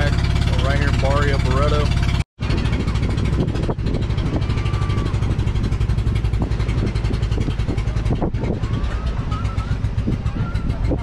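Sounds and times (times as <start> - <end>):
small engine running: 0.0 - 11.0
wind buffeting microphone: 0.0 - 11.0.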